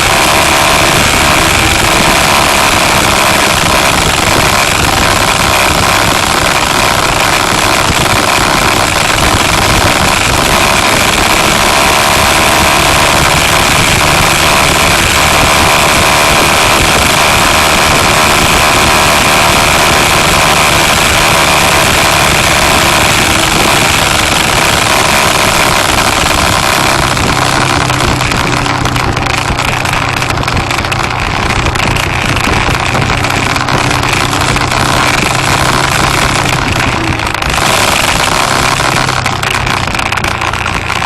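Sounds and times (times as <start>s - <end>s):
road and wind noise: 0.0s - 41.0s
vehicle engine running: 0.0s - 41.0s.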